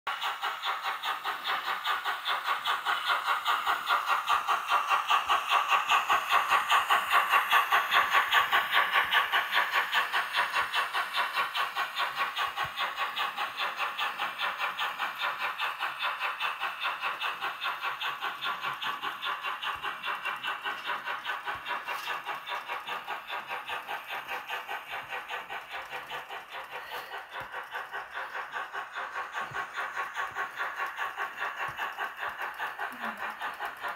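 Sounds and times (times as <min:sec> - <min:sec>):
model steam locomotive chuffing: 0:00.1 - 0:33.9.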